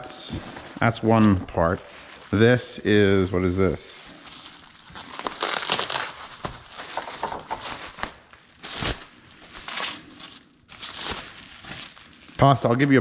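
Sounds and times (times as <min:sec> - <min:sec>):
bubble wrap rustling and crinkling: 0:00.2 - 0:13.0.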